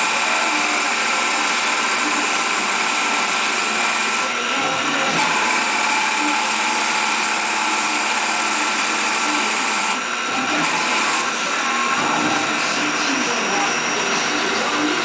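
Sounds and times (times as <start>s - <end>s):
lathe machine whine: 0.0s - 15.0s.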